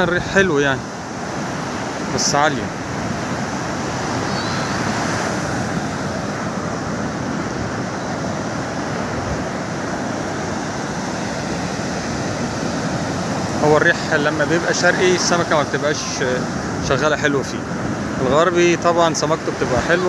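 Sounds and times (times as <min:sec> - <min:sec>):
waves breaking on shore: 0:00.0 - 0:20.0.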